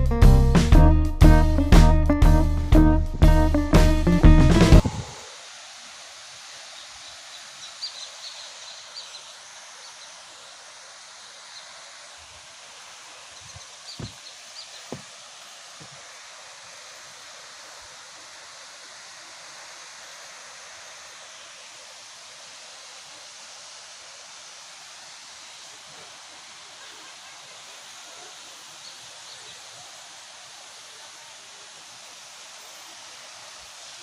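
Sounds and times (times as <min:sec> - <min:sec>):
waterfall rushing: 0:01.4 - 0:34.0.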